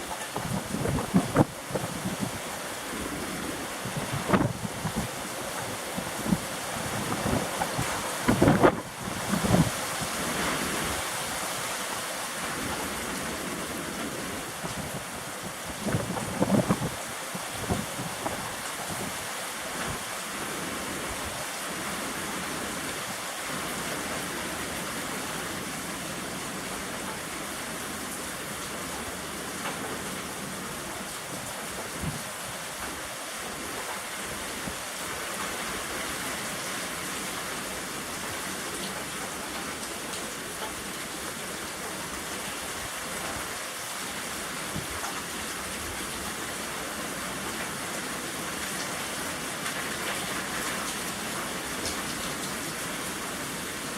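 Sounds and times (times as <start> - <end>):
rain in strong wind: 0.0 - 53.9.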